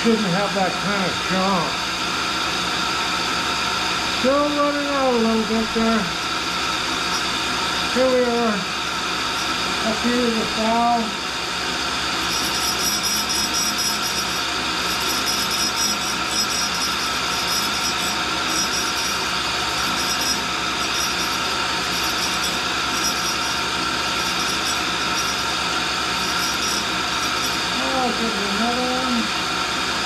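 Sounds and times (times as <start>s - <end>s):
grinder motors running: 0.0s - 30.0s
grinding hiss: 0.0s - 30.0s.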